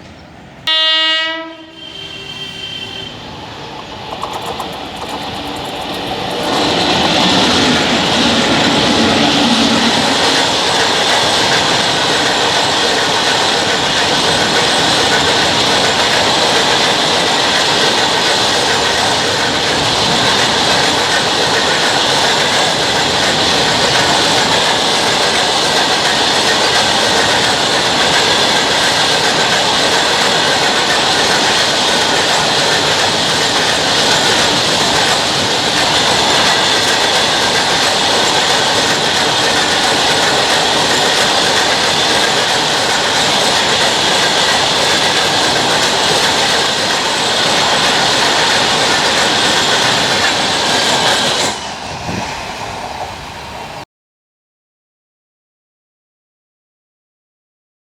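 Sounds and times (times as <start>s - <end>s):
train wheels rolling on rails: 0.0s - 53.8s.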